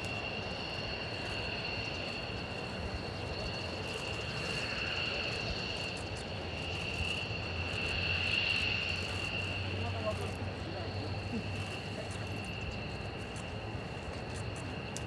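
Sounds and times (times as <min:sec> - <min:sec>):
jet engine whine: 0:00.0 - 0:15.0.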